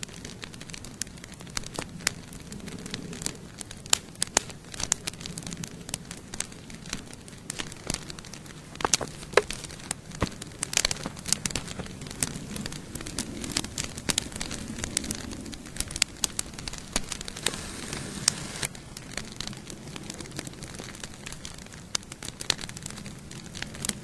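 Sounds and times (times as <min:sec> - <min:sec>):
campfire crackling: 0:00.0 - 0:24.0
low rush of flame: 0:00.0 - 0:24.0.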